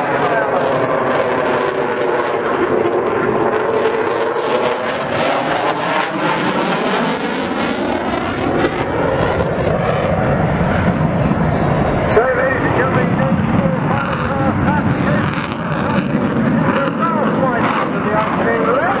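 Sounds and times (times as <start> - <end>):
jet aircraft flying past: 3.1 - 19.0.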